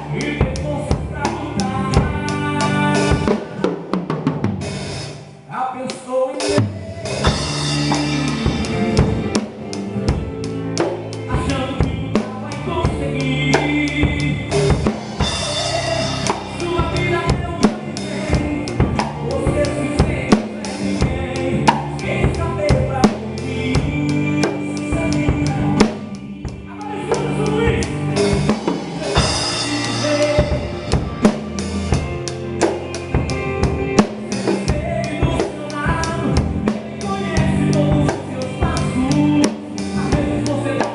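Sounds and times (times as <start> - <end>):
band playing upbeat song: 0.0 - 40.9
drum kit beat: 0.0 - 40.9.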